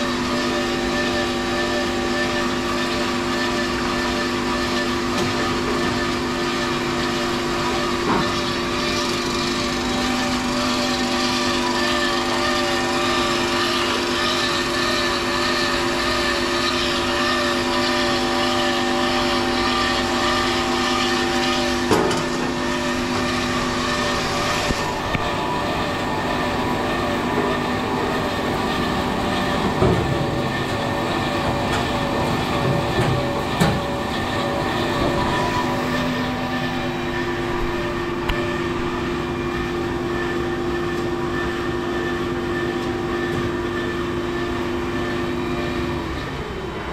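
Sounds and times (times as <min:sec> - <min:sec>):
band saw humming: 0:00.0 - 0:46.9.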